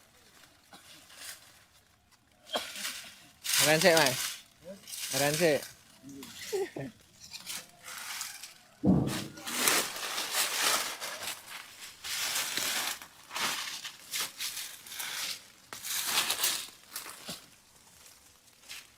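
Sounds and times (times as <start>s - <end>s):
rustling crackling noise: 0.0s - 18.9s.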